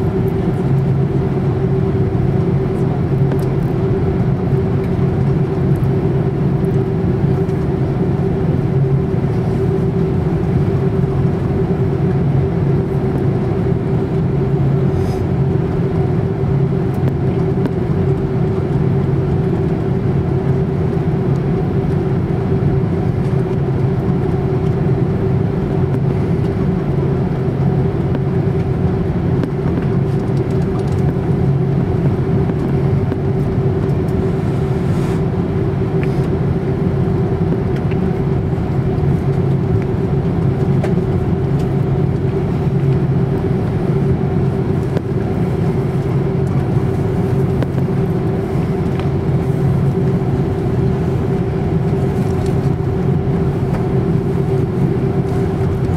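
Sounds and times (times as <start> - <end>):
jet engines humming in cabin: 0.0 - 55.9.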